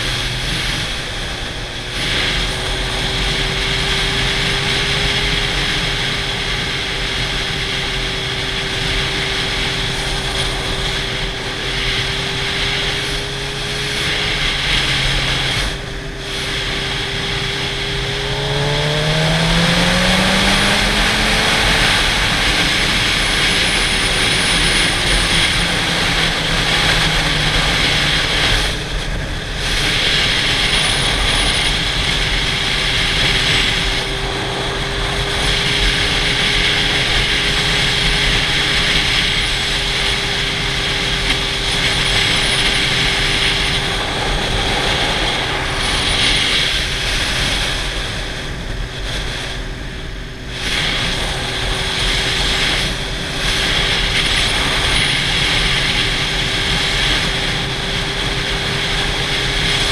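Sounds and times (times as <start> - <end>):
motorcycle engine drone: 0.0 - 59.9
wind rushing over camera: 0.0 - 59.9.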